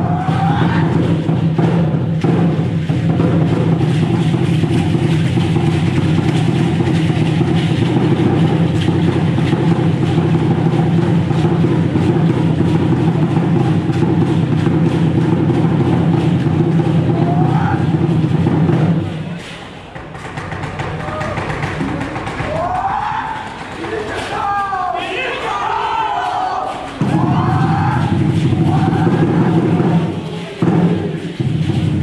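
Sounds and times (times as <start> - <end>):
fast drumming roll: 0.0 - 32.0.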